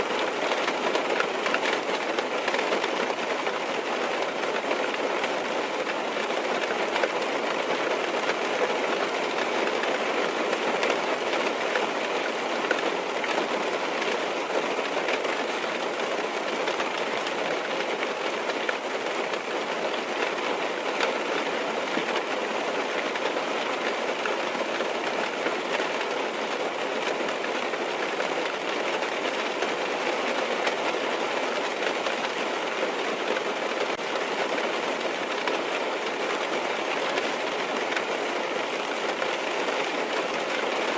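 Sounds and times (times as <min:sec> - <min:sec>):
rain on car roof: 0:00.0 - 0:40.9.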